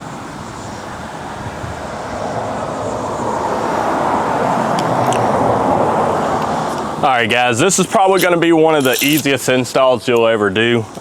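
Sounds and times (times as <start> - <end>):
traffic rushing: 0.0 - 11.0.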